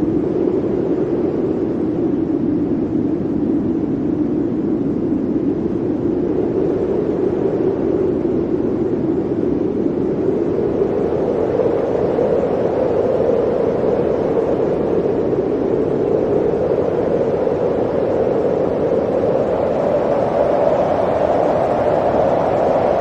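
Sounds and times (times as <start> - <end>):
blizzard wind blowing: 0.0 - 23.0.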